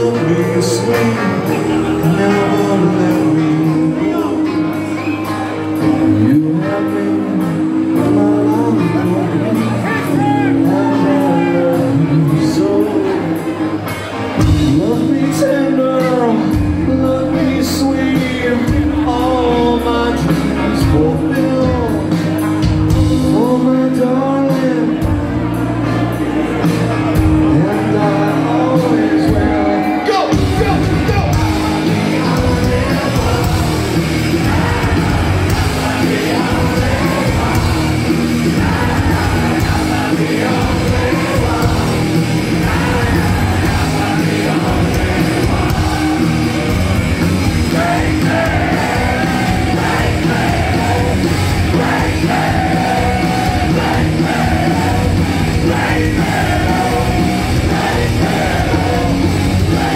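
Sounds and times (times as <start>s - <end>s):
live rock band: 0.0s - 59.9s
person singing: 0.0s - 59.9s.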